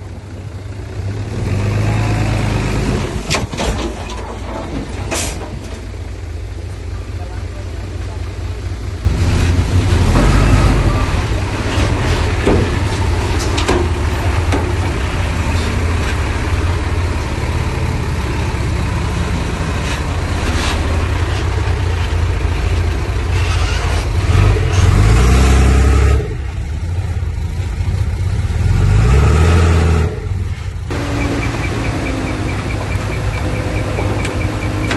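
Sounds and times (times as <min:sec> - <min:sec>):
diesel machinery engine revving: 0:00.0 - 0:03.4, 0:08.1 - 0:34.9.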